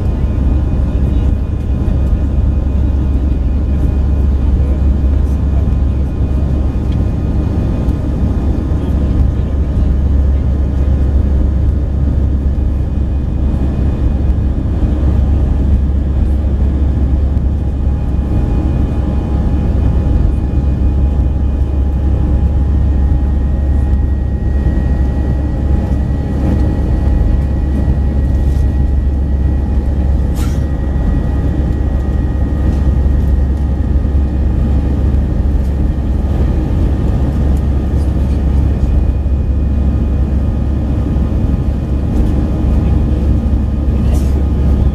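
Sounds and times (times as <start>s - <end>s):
faint engine whine: 0.0s - 44.9s
jet engine rumble: 0.0s - 44.9s.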